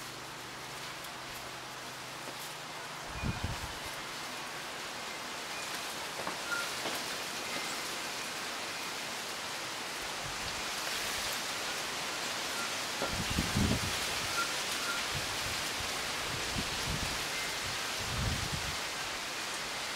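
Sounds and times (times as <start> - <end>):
wind rustling leaves: 0.0 - 19.9.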